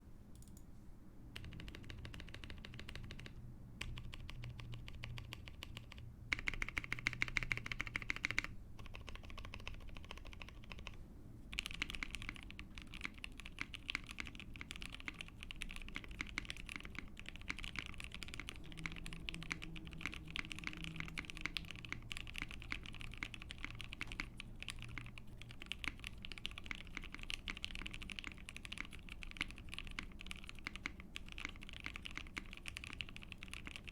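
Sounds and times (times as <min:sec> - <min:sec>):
mechanical keyboard typing: 0:01.4 - 0:11.0, 0:11.6 - 0:33.9.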